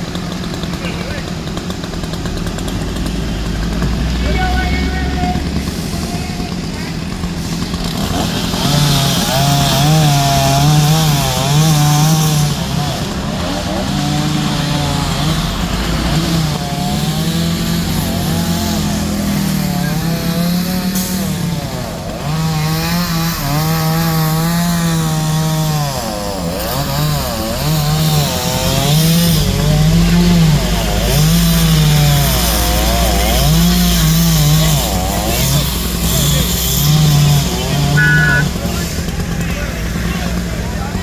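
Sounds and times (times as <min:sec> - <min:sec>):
chainsaw engine revving: 0:00.0 - 0:41.0.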